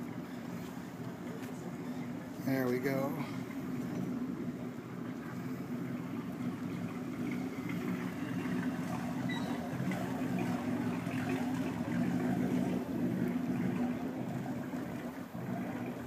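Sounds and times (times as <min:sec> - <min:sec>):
boat engine low drone: 0:00.0 - 0:16.0.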